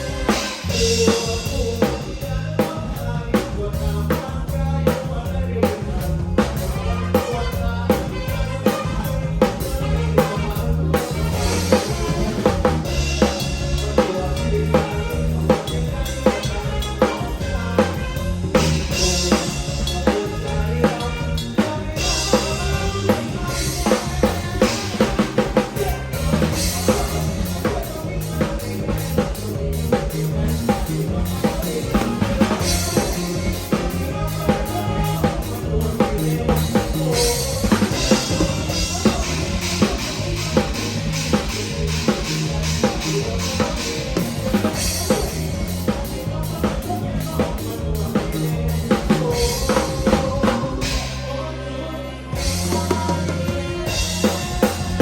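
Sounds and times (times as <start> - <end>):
band playing: 0.0 - 55.0
bass line: 0.0 - 55.0.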